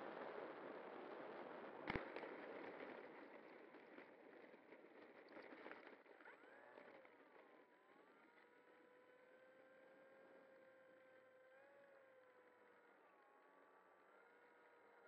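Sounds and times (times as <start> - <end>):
faint motor whine: 0.0 - 15.0.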